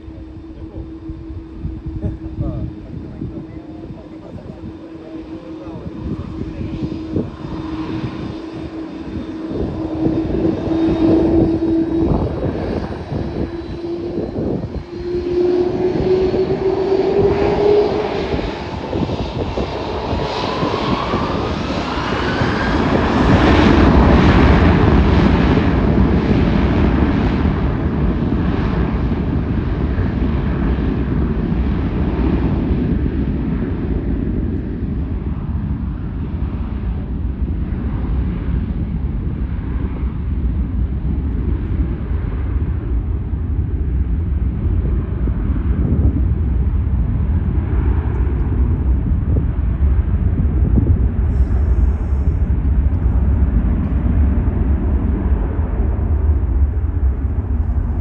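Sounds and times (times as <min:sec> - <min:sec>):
airliner engines whining and roaring: 0:00.0 - 0:58.0.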